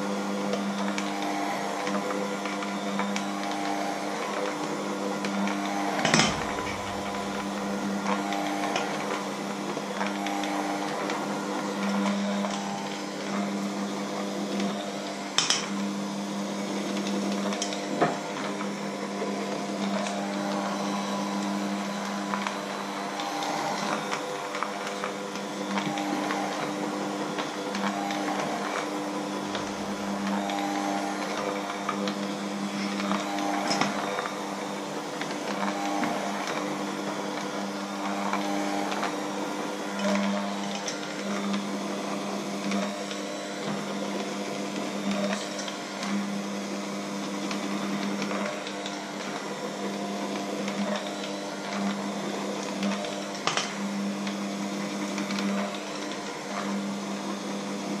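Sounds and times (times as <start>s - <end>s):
electric hand mixer running: 0.0s - 58.0s.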